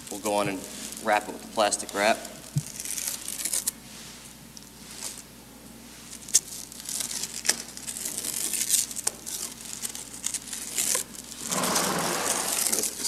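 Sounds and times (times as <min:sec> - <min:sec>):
plastic wrap crinkling: 0:00.0 - 0:03.8, 0:06.1 - 0:13.0.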